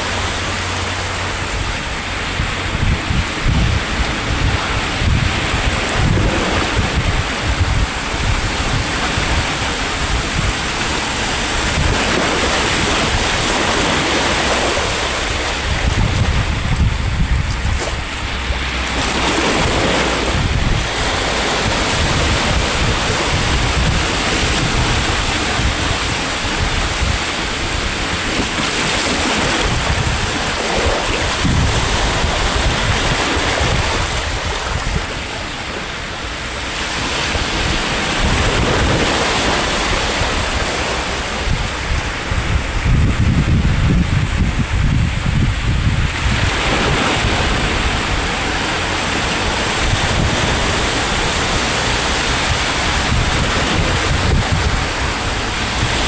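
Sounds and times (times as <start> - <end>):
sea waves breaking on shore: 0.0 - 56.0
wind buffeting microphone: 0.0 - 56.0.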